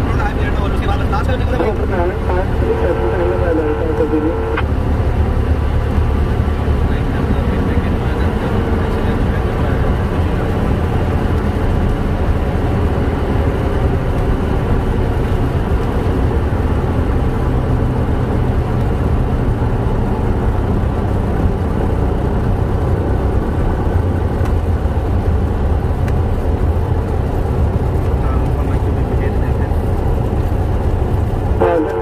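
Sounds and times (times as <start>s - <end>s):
piston engine and propeller: 0.0s - 32.0s.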